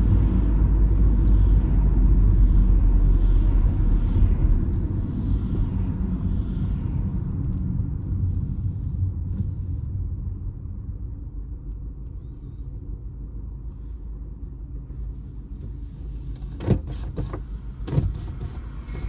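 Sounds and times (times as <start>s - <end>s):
engine and road noise rumble: 0.0s - 19.0s.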